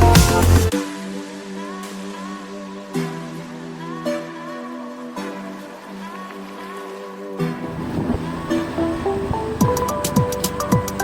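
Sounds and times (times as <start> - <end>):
electronic synth music: 0.0 - 11.0.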